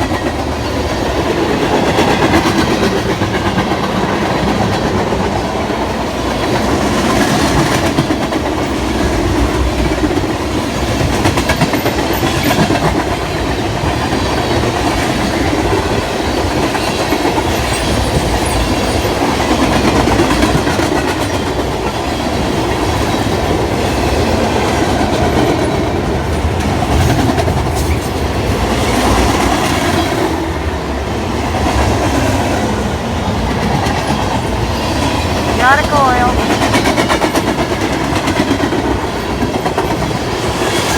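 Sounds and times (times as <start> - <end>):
freight train cars rumbling: 0.0 - 40.9.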